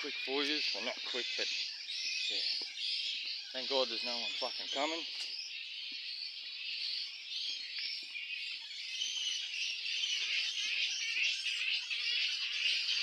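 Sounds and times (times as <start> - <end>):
fruit bats chattering: 0.0 - 13.0.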